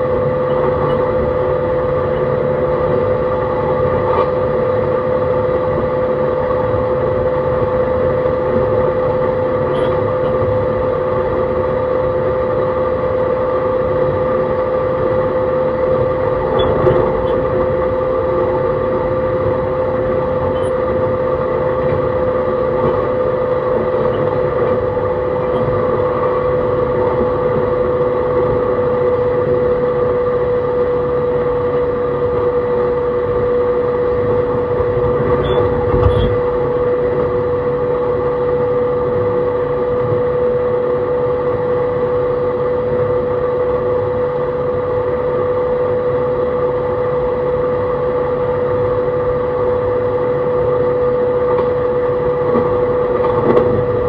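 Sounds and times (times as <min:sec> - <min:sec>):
electric train motor whine: 0:00.0 - 0:54.0
wheels rumbling on rail: 0:00.0 - 0:54.0.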